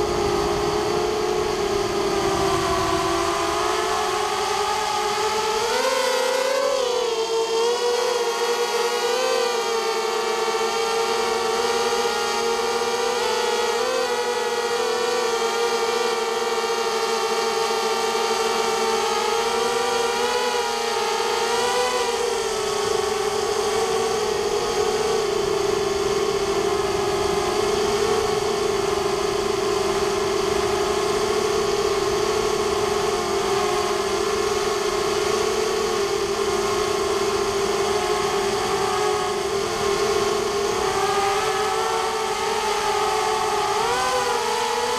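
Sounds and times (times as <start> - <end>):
drone motors whining: 0.0 - 44.9.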